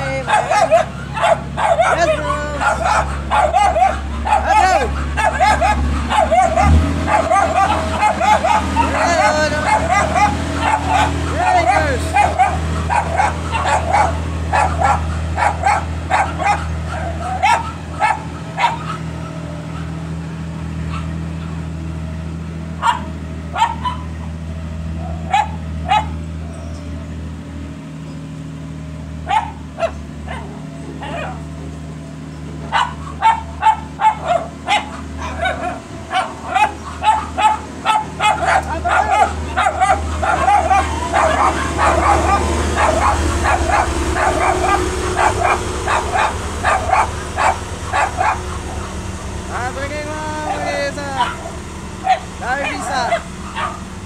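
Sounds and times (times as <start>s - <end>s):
dog barking and yipping: 0.0s - 20.2s, 20.8s - 21.7s, 22.8s - 24.4s, 25.0s - 26.8s, 29.2s - 31.6s, 32.6s - 54.0s
diesel engine idling: 0.0s - 54.0s.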